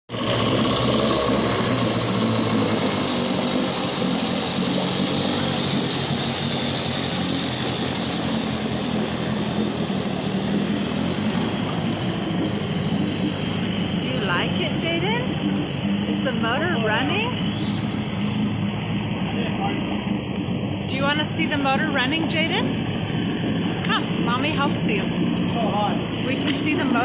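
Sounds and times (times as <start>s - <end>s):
propeller churning water: 0.0s - 27.0s
outboard motor running: 0.1s - 27.0s.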